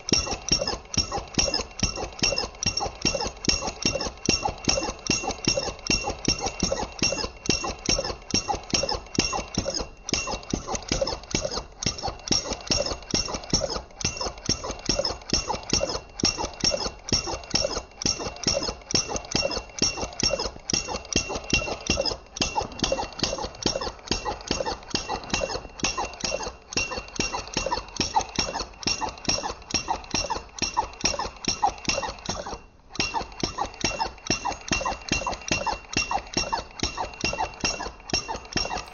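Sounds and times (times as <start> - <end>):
flame engine chuffing and clicking: 0.0 - 38.9.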